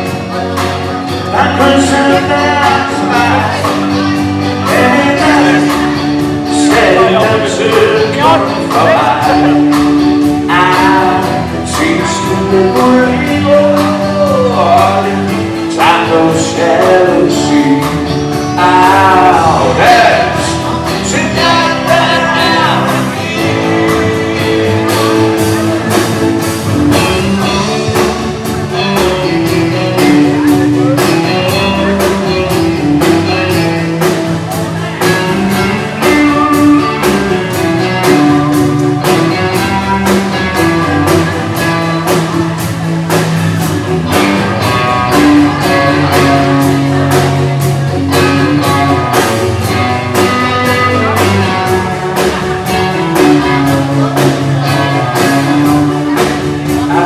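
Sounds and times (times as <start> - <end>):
bass: 0.0 - 57.0
drum kit beat: 0.0 - 57.0
electric guitar: 0.0 - 57.0.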